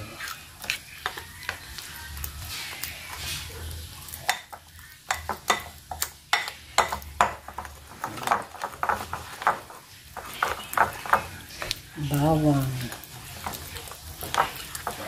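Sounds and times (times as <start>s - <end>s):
spoon stirring batter in bowl: 0.0s - 15.0s.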